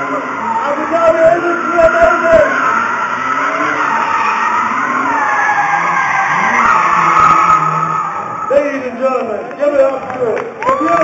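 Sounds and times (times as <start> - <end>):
car tyres squealing: 0.0 - 9.9.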